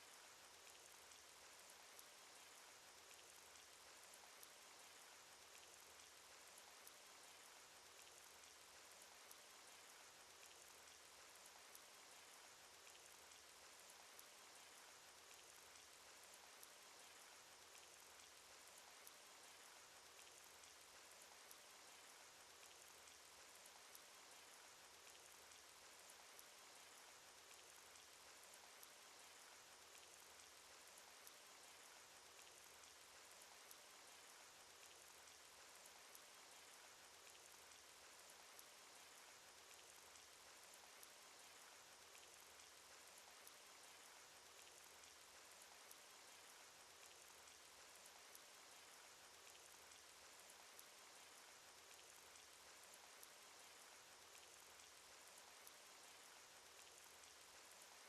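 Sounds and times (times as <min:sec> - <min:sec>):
soft hiss of falling rain: 0:00.0 - 0:58.0.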